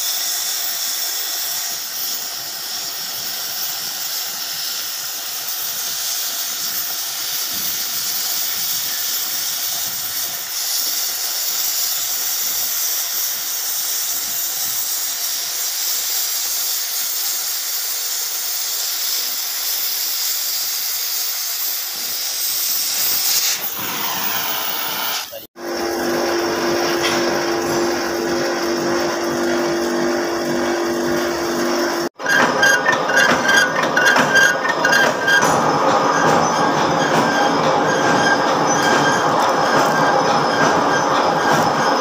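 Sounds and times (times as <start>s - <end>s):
cutting torch hissing: 0.0s - 35.5s.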